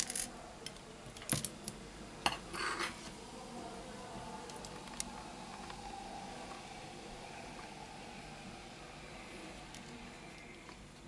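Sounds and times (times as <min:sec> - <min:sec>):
workshop background hiss and hum: 0:00.0 - 0:11.0.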